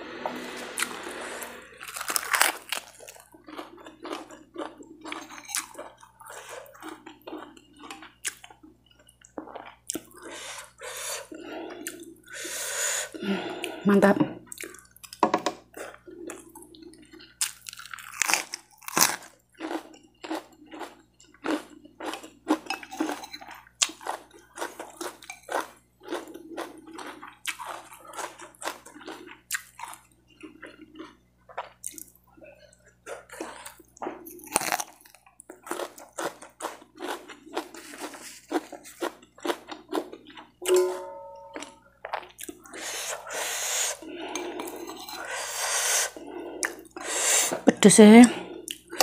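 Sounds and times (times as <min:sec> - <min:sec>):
chewing crisp food: 0:01.8 - 0:12.4, 0:14.4 - 0:40.7, 0:41.5 - 0:47.2, 0:48.2 - 0:49.0.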